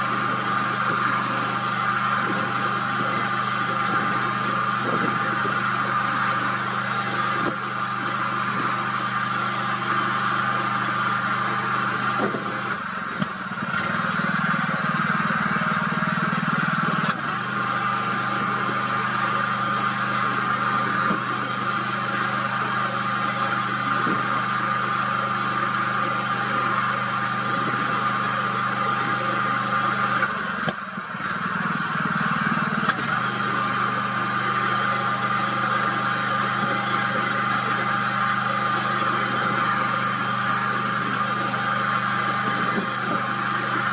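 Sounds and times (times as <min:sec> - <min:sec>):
engine idling hum: 0:00.0 - 0:43.9.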